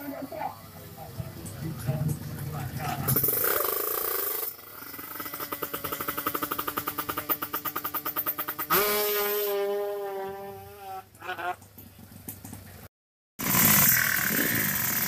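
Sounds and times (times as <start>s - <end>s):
motorcycle engine revving: 0.0s - 11.2s, 13.4s - 15.0s.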